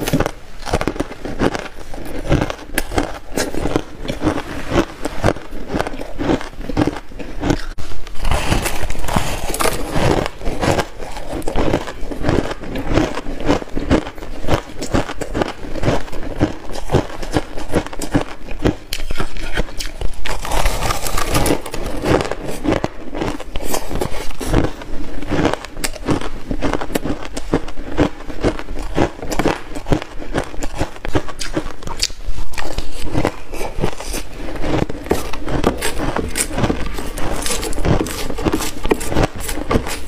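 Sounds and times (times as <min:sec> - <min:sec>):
person chewing crunchy ice: 0:00.0 - 0:40.0.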